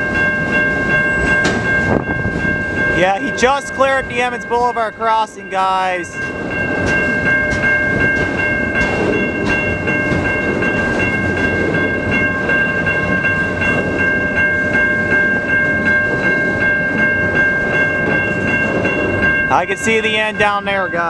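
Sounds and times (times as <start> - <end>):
crossing warning bell ringing: 0.0 - 21.0
freight train wheels clicking: 0.0 - 21.0
train rumble: 0.0 - 21.0.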